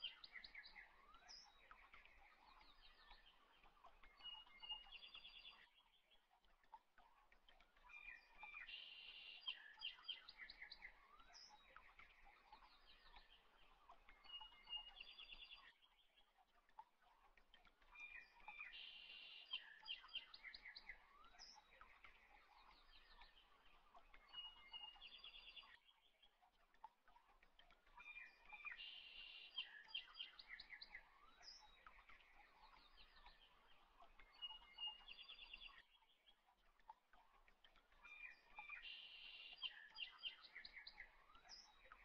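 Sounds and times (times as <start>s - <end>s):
faint birdsong chirps and trills: 0.0s - 42.0s.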